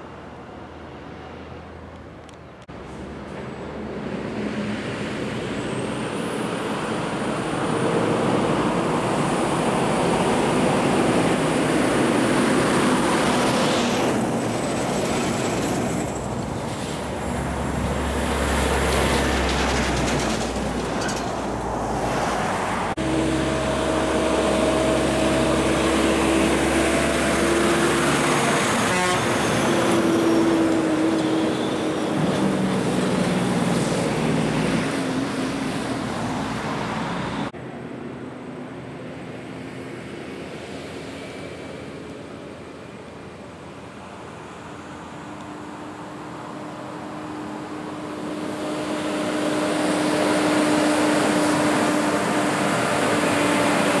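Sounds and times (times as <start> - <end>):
truck diesel engine: 0.0 - 42.0, 44.2 - 54.0
heavy truck engine drone: 0.0 - 54.0.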